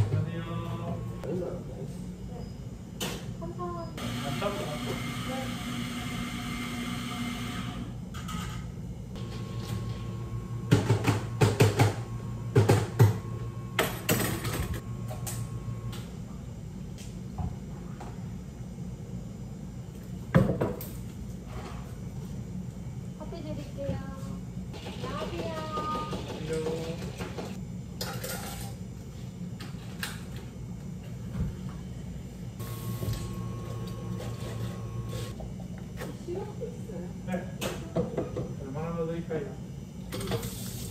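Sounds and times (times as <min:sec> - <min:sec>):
machine hum: 0:00.0 - 0:20.1, 0:22.2 - 0:40.9.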